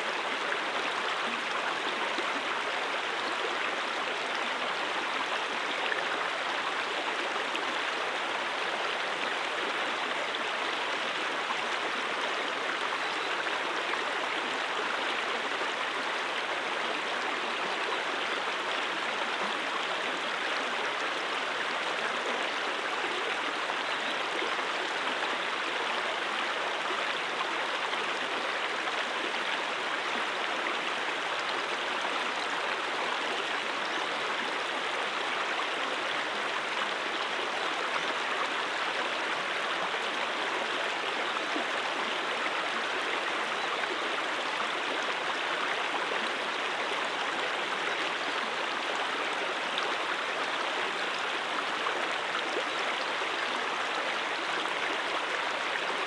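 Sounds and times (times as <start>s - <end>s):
brook water flowing over rocks: 0.0s - 56.0s.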